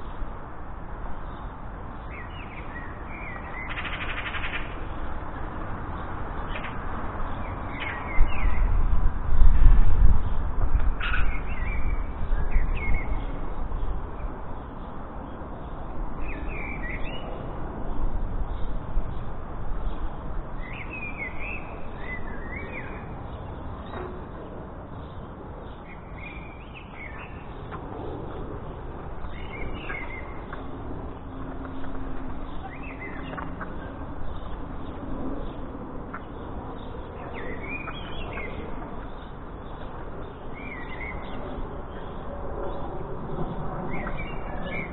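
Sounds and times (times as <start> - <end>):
steady outdoor hiss: 0.0 - 44.9.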